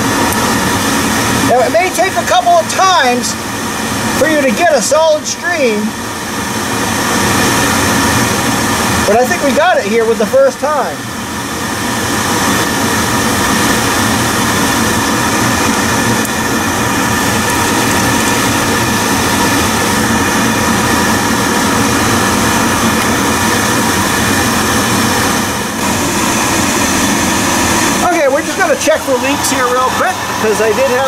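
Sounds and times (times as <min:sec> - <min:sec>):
oil burner humming: 0:00.0 - 0:31.0.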